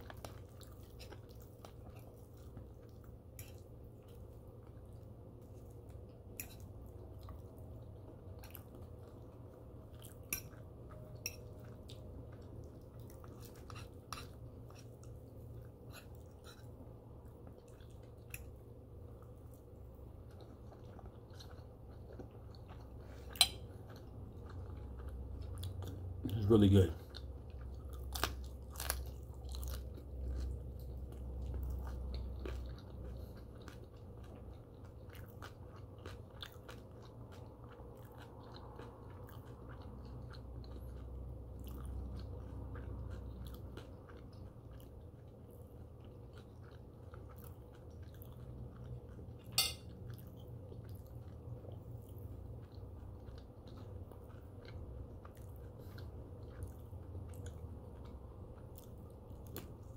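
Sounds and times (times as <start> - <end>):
person chewing crispy bacon: 0.0 - 59.9.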